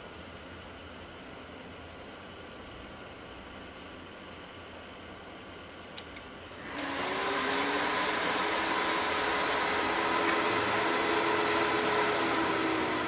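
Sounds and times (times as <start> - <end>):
computer fans whirring: 0.0 - 13.0.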